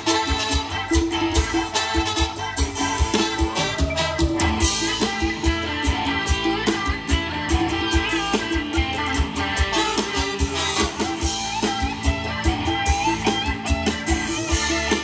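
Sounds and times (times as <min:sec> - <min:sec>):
dance band music over loudspeakers: 0:00.0 - 0:15.0
guitar: 0:00.0 - 0:15.0
steady drum beat: 0:00.0 - 0:15.0.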